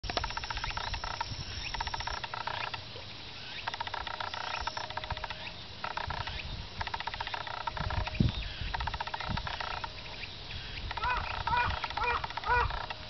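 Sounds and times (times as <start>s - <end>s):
frogs calling in pulses: 0.0s - 13.0s.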